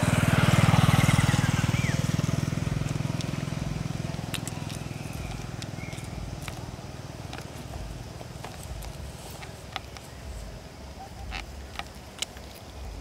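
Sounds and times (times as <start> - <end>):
motorcycle engine moving away: 0.0 - 13.0.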